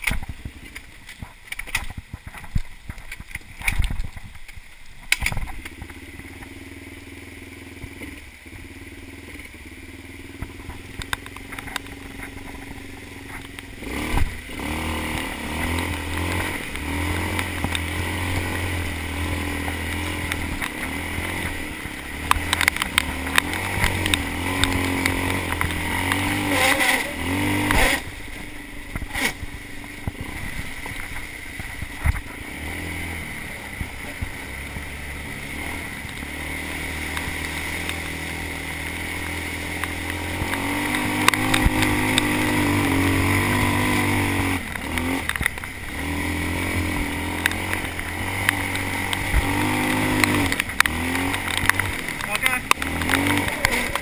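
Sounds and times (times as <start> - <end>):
quad bike engine revving: 5.1 - 54.0.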